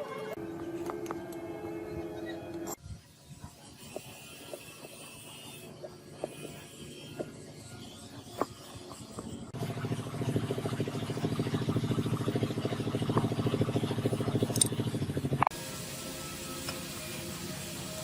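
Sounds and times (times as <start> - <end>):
small motor running: 3.1 - 18.0.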